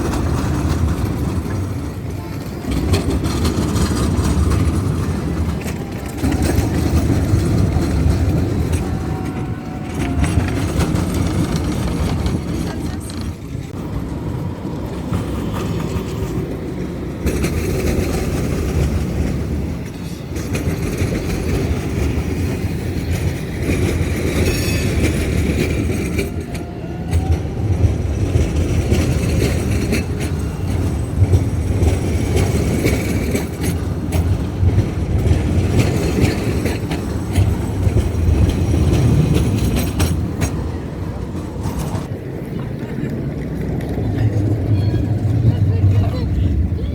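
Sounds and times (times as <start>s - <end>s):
tram running on rails: 0.0s - 46.9s.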